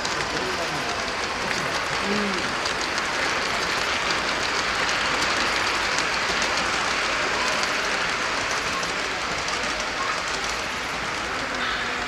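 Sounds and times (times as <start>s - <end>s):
model train wheels rolling: 0.0s - 12.0s.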